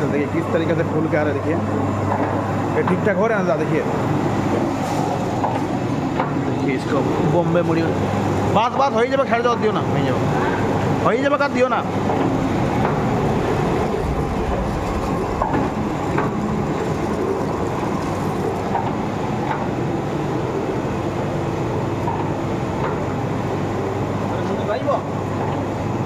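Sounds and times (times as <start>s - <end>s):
rotating drum rumbling: 0.0s - 26.0s.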